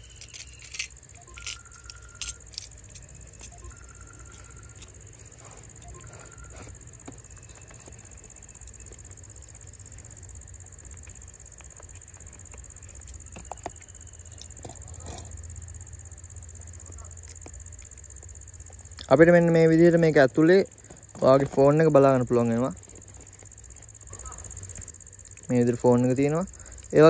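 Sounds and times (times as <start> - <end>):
high-pitched insect buzz: 0.0 - 27.0
insect chirping trills: 0.0 - 27.0.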